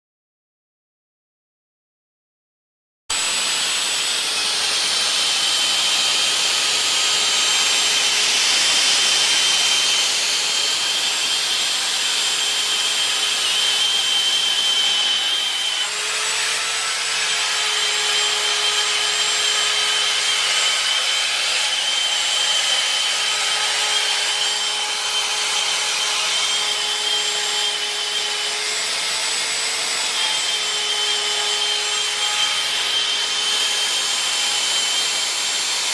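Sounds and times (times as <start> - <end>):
cnc router spindle whining: 3.1 - 35.9.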